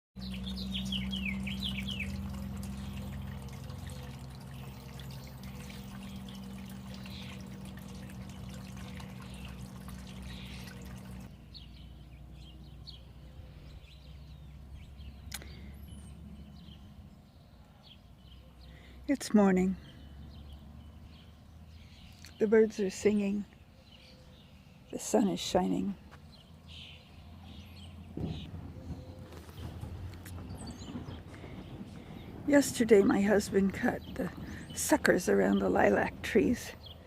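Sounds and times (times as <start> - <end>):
songbirds chirping: 0.2 - 37.0.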